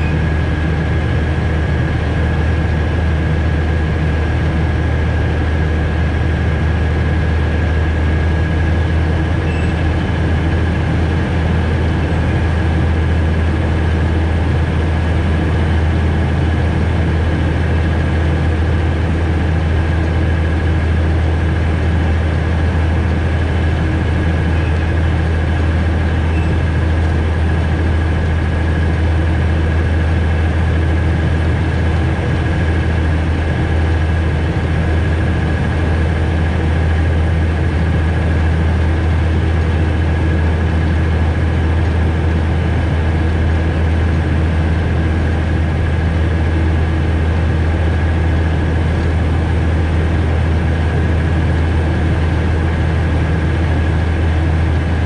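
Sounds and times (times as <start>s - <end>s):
train low drone: 0.0s - 55.0s.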